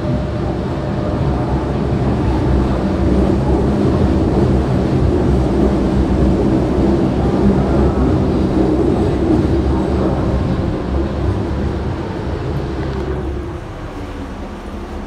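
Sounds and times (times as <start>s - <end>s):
train rumbling through tunnel: 0.0s - 15.0s.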